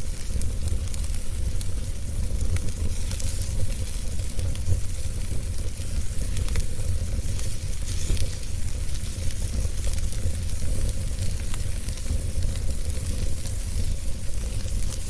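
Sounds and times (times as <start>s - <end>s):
fireplace fire crackling: 0.0s - 15.0s
steady hiss: 0.0s - 15.0s.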